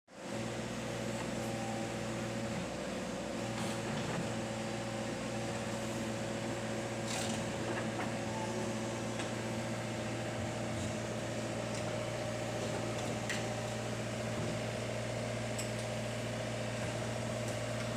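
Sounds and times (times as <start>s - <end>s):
excavator diesel engine droning: 0.2s - 17.9s.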